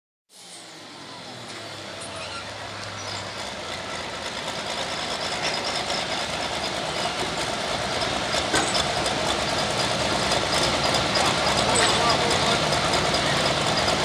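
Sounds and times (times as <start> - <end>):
diesel truck engine running: 0.6 - 14.0.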